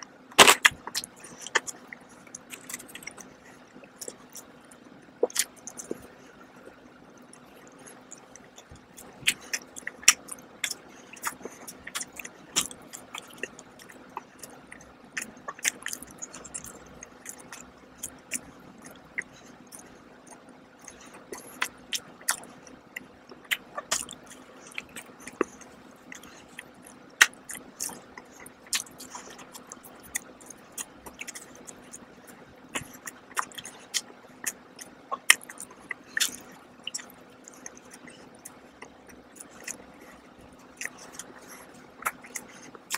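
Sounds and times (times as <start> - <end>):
chewing and biting donut: 0.3 - 42.9.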